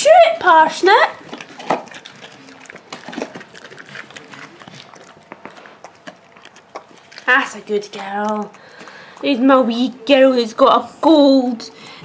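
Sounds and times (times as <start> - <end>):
dogs chewing treats: 0.0 - 12.0.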